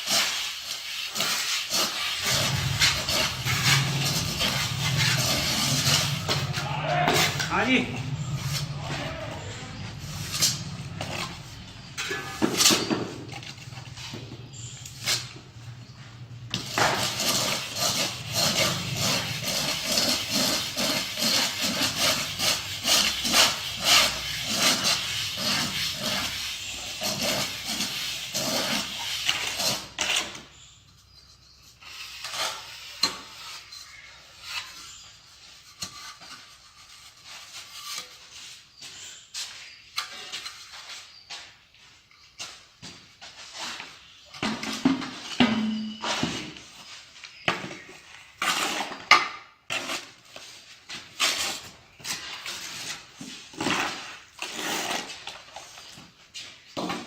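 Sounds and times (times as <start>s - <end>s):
hand tools scraping and tapping: 0.0s - 15.5s, 16.5s - 57.0s.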